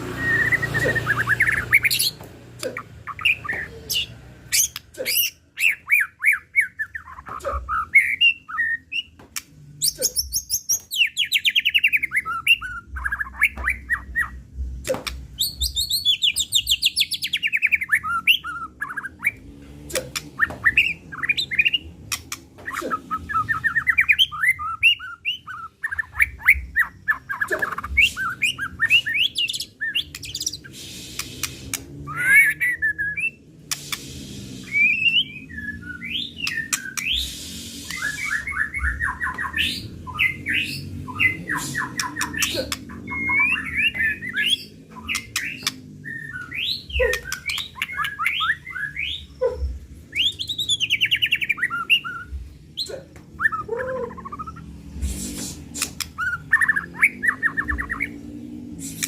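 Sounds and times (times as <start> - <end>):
songbird singing trills and whistles: 0.0 - 9.2, 9.8 - 19.4, 20.1 - 59.0.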